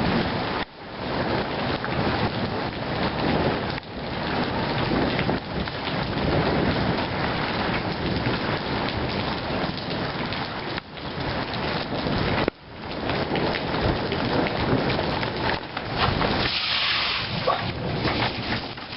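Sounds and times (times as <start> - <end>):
hail and rain pelting down: 0.0 - 18.9.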